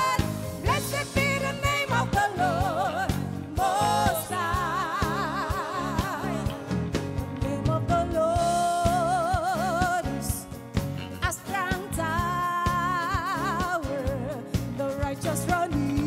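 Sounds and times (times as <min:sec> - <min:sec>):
woman singing with vibrato: 0:00.0 - 0:10.5, 0:11.2 - 0:16.0
band of drums bass and keyboards: 0:00.0 - 0:16.0.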